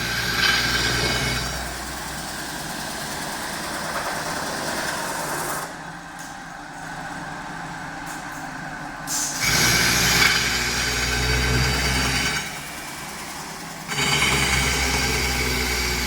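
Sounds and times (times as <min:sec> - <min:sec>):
metal spinning machine running: 0:00.0 - 0:06.1, 0:08.6 - 0:16.0.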